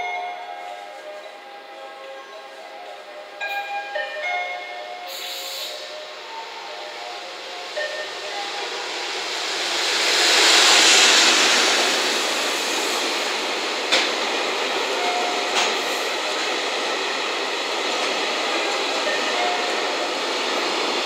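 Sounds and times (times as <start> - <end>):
electric locomotive passing: 0.0 - 21.0.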